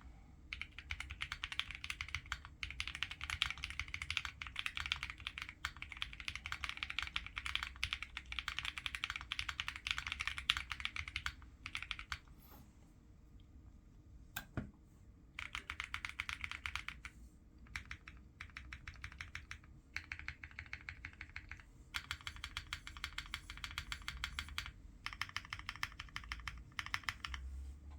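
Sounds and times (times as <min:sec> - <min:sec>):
mechanical keyboard typing: 0:00.5 - 0:12.2, 0:15.4 - 0:17.1, 0:17.7 - 0:27.5.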